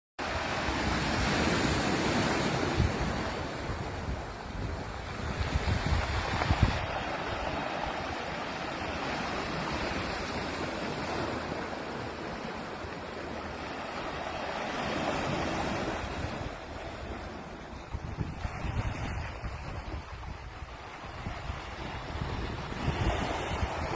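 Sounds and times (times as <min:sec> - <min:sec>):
sea waves on pebble beach: 0:00.2 - 0:23.9.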